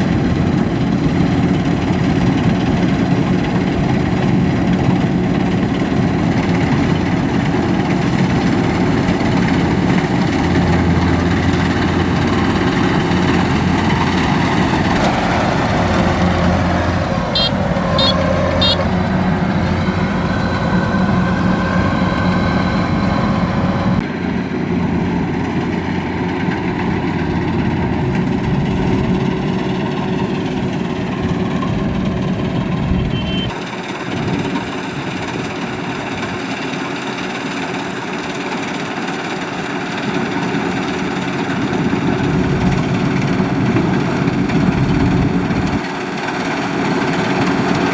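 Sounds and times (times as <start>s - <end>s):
combine harvester working noise: 0.0s - 47.9s
diesel engine drone: 0.0s - 47.9s.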